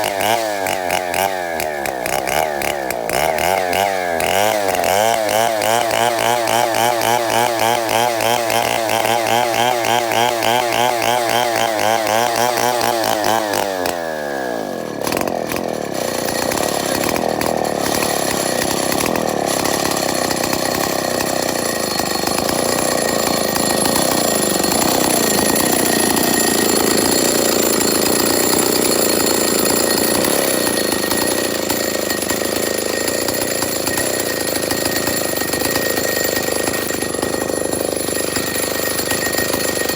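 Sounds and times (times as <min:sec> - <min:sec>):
dense steady rasp: 0:00.0 - 0:14.1, 0:15.0 - 0:39.9
chainsaw engine running: 0:00.0 - 0:39.9.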